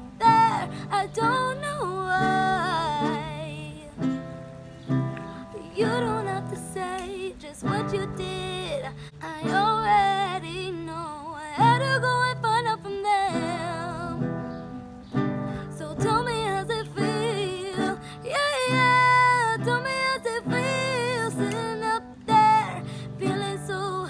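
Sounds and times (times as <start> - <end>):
nylon-string guitar chords: 0.0 - 24.0
woman singing pop melody: 0.0 - 24.0.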